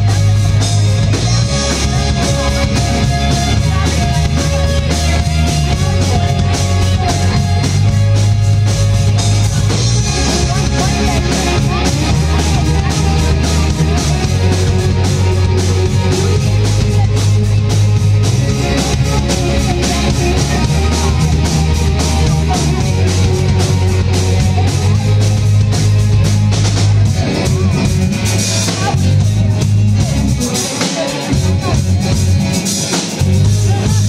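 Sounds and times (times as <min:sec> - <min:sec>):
bass guitar: 0:00.0 - 0:34.0
drum kit and cymbals: 0:00.0 - 0:34.0
electric guitars: 0:00.0 - 0:34.0.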